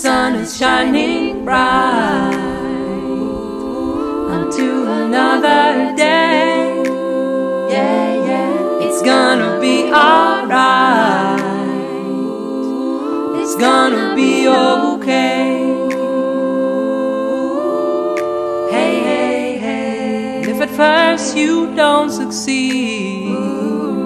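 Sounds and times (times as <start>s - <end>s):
a cappella voices singing and humming: 0.0s - 24.0s.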